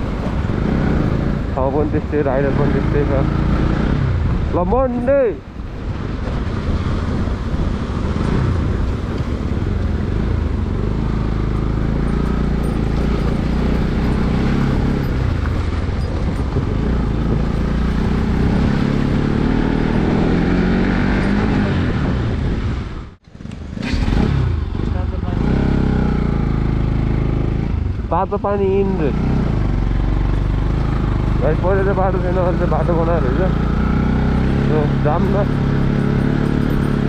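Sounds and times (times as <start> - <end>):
motorcycle engine running: 0.0 - 22.4, 23.2 - 37.0.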